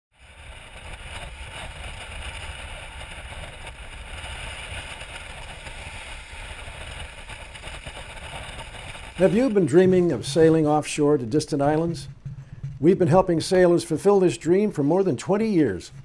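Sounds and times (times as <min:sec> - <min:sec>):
wind buffeting microphone: 0:00.2 - 0:16.0.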